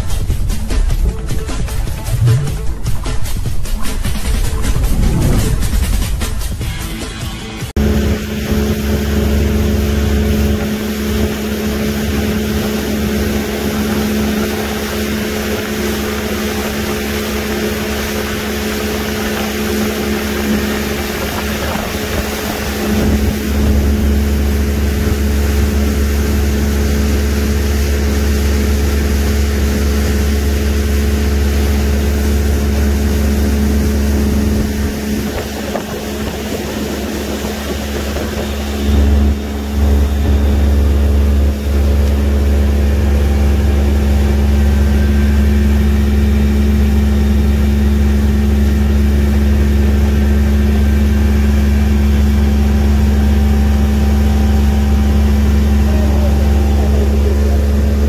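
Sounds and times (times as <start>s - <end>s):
boat engine rumbling: 0.0s - 7.0s, 7.6s - 58.0s
wind and water rushing: 2.0s - 6.6s, 7.8s - 58.0s.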